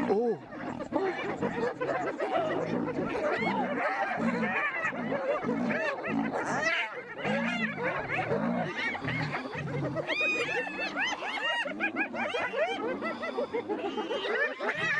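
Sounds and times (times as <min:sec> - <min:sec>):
hyenas giggling: 0:00.0 - 0:14.9.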